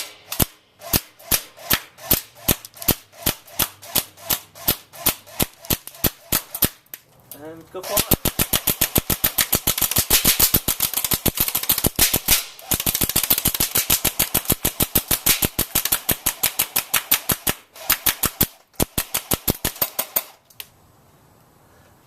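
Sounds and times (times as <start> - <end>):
electric airsoft gun firing: 0.0 - 6.8, 7.8 - 20.4.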